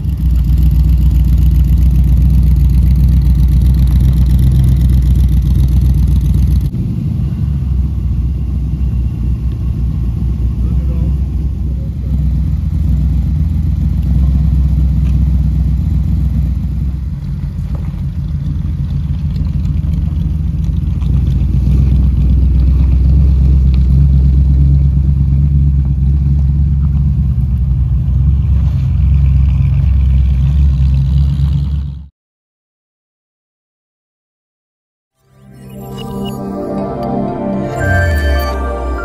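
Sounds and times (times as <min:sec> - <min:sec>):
car engines rumbling: 0:00.0 - 0:32.1.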